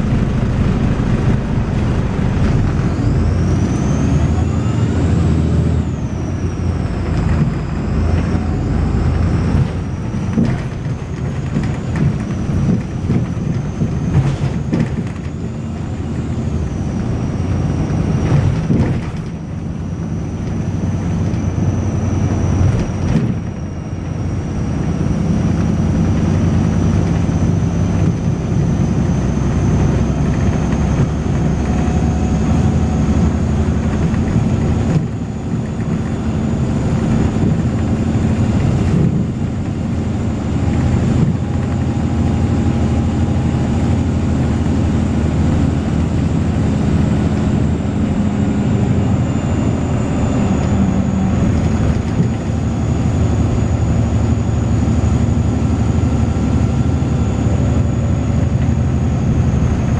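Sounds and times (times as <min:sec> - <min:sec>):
diesel bus engine rumble: 0:00.0 - 0:59.9
high-pitched whine: 0:00.0 - 0:59.9.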